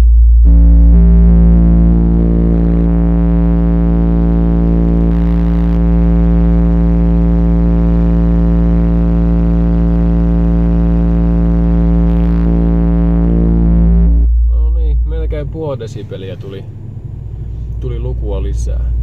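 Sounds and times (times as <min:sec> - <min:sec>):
subwoofer low buzzy test tone: 0:00.0 - 0:19.0.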